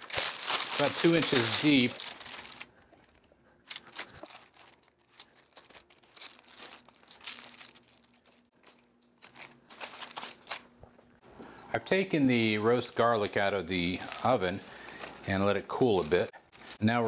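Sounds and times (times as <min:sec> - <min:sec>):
parchment paper crinkling: 0:00.0 - 0:10.9, 0:12.8 - 0:17.0.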